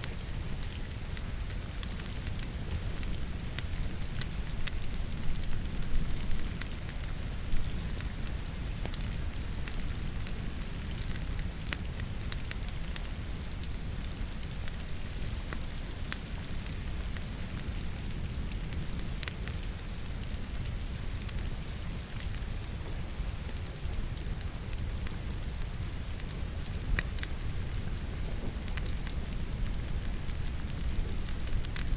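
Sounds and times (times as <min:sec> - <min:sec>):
rain hiss: 0:00.0 - 0:31.9
wood fire crackling and popping: 0:00.0 - 0:31.9.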